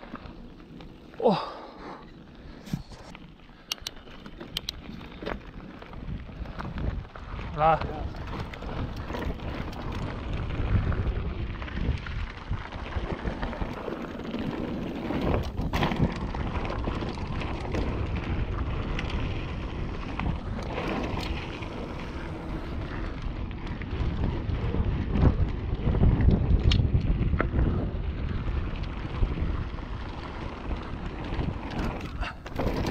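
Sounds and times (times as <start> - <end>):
bike clicks and rattles: 0.0 - 32.9
bike tyres crunching over stones: 0.0 - 32.9
wind on microphone: 4.6 - 32.9.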